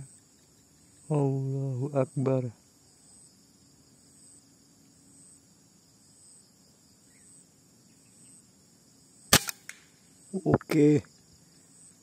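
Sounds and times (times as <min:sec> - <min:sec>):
faint insect chirp: 0:00.0 - 0:12.0.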